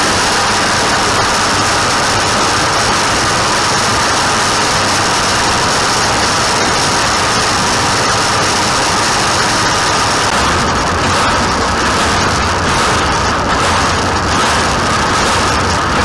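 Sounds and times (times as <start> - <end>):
tractor and hay machinery running: 0.0 - 16.0.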